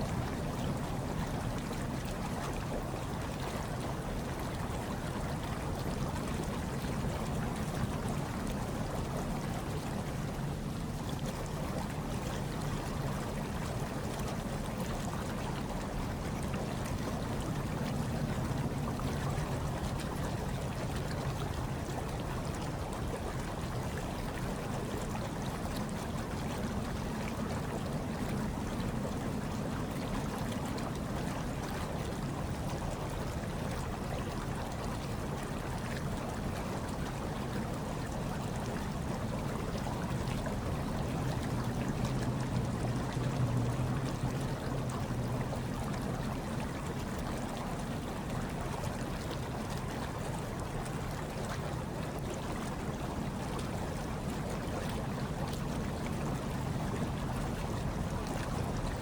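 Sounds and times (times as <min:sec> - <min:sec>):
hot tub water churning: 0:00.0 - 0:59.0.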